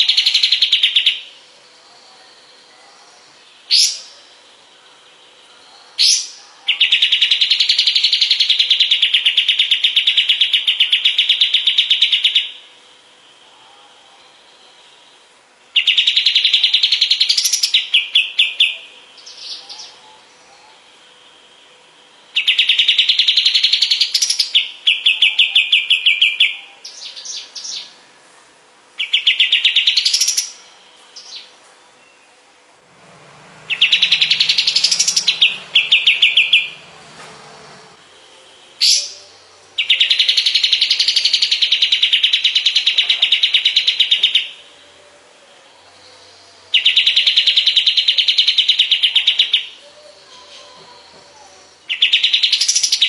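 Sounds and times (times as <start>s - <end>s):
bird singing: 0.0s - 28.3s, 28.9s - 53.0s.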